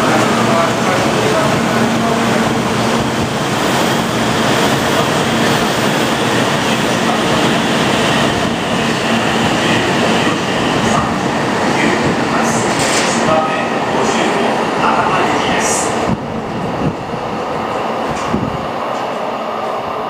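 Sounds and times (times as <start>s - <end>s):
train wheel and air rush: 0.0s - 20.0s.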